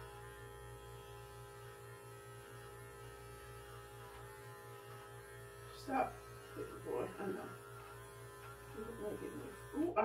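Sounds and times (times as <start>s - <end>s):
electric clippers humming: 0.0s - 10.0s.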